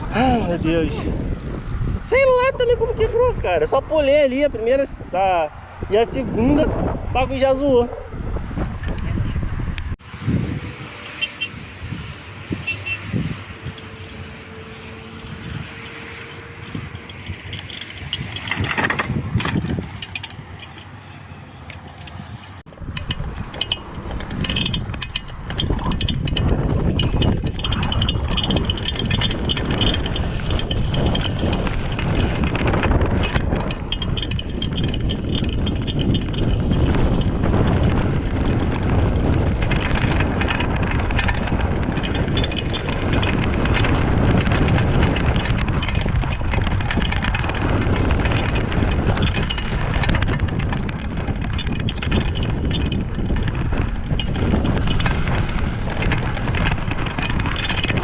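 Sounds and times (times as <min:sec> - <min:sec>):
heavy wind on microphone: 0:00.0 - 0:58.0
bike chain and frame clattering: 0:10.0 - 0:58.0
tyres rumbling on dirt: 0:10.0 - 0:58.0.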